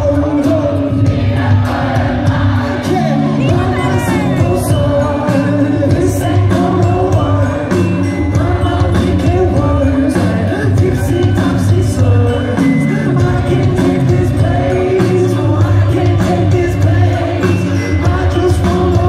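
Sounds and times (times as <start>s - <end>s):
live pop band with singer: 0.0s - 19.0s.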